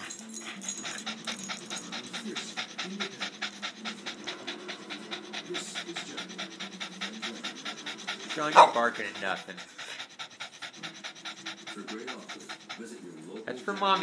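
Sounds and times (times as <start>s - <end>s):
dog panting fast: 0.0s - 14.0s.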